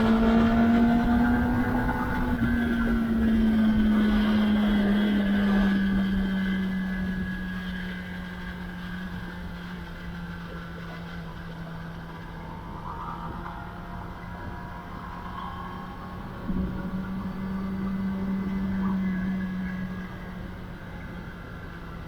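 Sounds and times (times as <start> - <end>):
motorcycle engine on overrun: 0.0 - 22.0.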